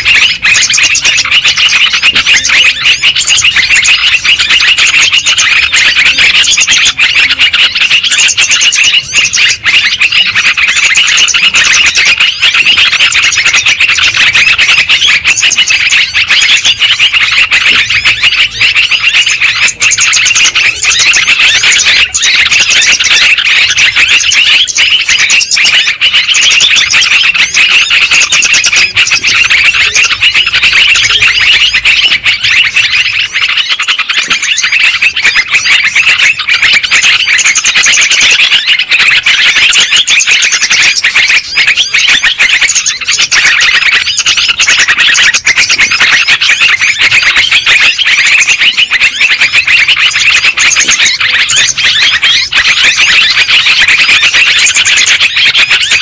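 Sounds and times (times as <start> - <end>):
birds calling and chattering: 0.0 - 56.0.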